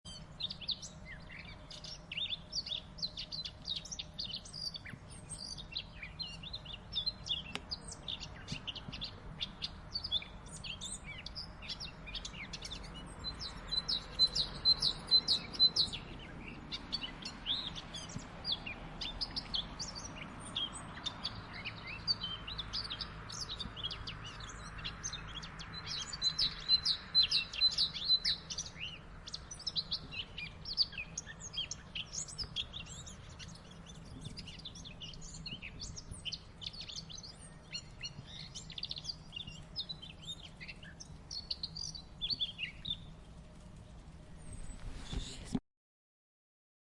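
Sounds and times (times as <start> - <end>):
bird singing varied chirps: 0.0 - 45.6.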